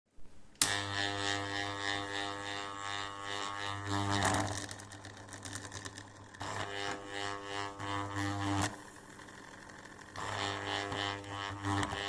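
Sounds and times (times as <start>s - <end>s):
stalled fan motor buzzing hum: 0.6s - 12.0s.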